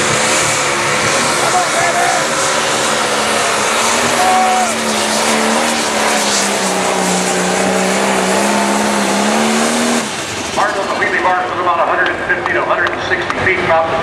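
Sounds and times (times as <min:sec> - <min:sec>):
diesel engine running under load: 0:00.0 - 0:13.5.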